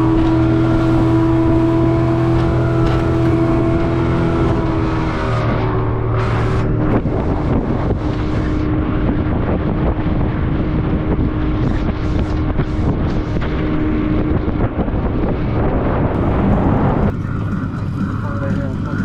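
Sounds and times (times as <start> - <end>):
boat engine running: 0.0 - 19.0
wind buffeting microphone: 0.0 - 19.0.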